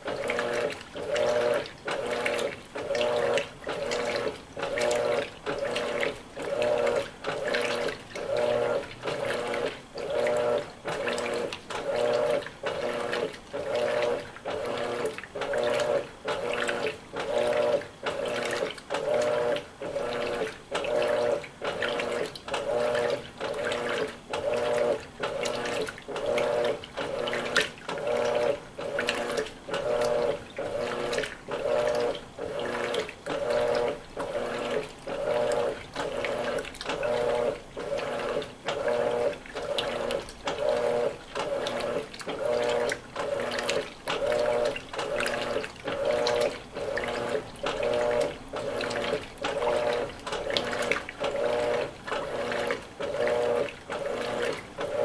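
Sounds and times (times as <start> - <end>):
washing machine motor hum: 0.0 - 55.0
washing machine water sloshing: 0.0 - 55.0.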